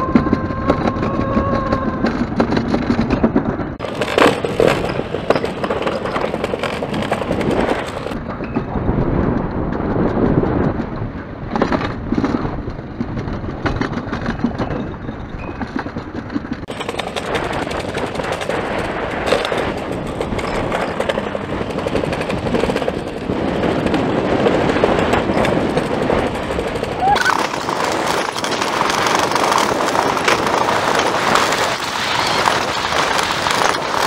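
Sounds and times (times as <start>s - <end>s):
sled wheels rattling on metal: 0.0s - 34.0s.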